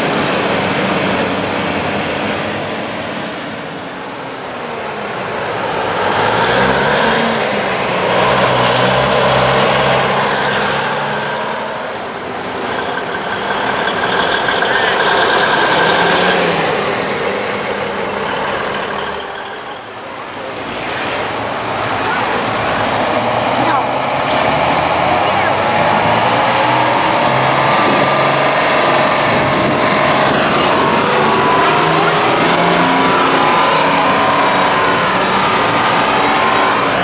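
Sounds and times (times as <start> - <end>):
trucks driving past: 0.0 - 37.0.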